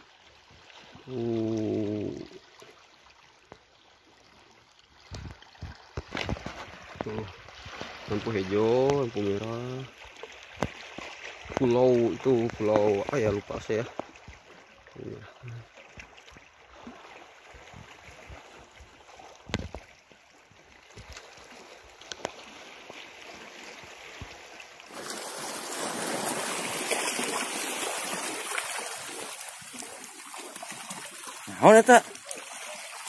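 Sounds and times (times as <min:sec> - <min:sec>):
seashore wash: 0:05.2 - 0:19.8, 0:20.4 - 0:33.0.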